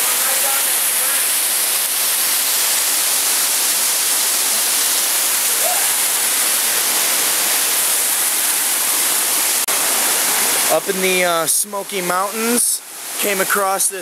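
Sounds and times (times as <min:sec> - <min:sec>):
waterfall rushing over boulders: 0:00.0 - 0:14.0.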